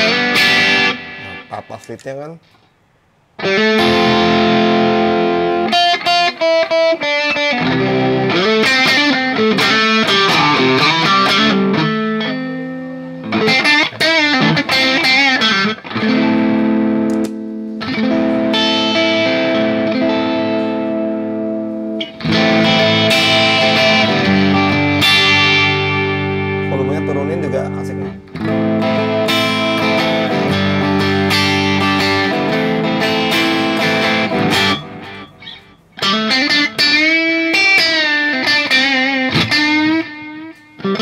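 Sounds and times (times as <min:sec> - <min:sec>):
electric guitar strummed chords: 0:00.0 - 0:02.3, 0:03.4 - 0:41.0.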